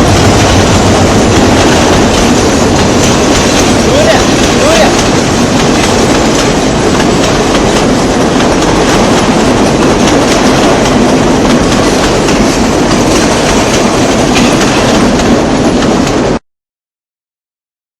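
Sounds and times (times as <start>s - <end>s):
wheels clattering over rail joints: 0.0s - 16.3s
passenger train rolling past: 0.0s - 16.4s.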